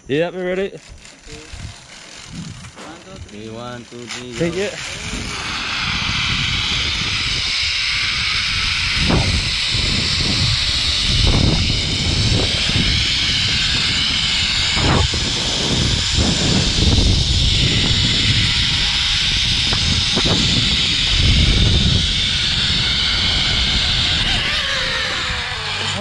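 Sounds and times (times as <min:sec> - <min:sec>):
zip line pulleys whirring: 0:00.4 - 0:26.0
wind buffeting microphone: 0:00.7 - 0:26.0.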